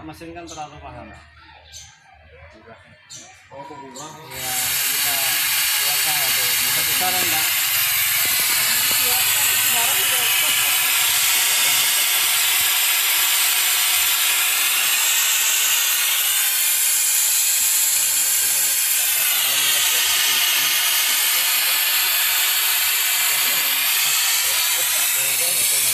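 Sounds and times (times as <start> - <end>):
air hissing through hose: 4.3 - 25.9.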